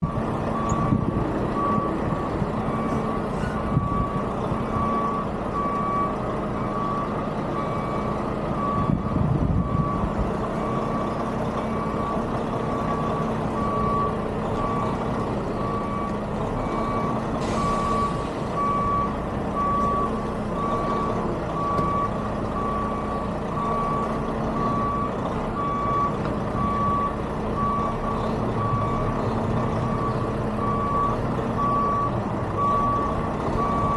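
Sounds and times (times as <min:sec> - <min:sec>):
truck backup alarm beeping: 0:00.0 - 0:33.9
truck engine running: 0:00.0 - 0:33.9.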